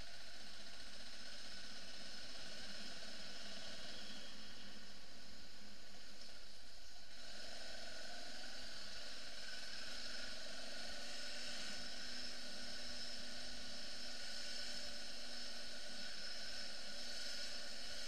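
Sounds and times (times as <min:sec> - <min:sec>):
faint motorcycle engine hum: 0:00.0 - 0:18.0.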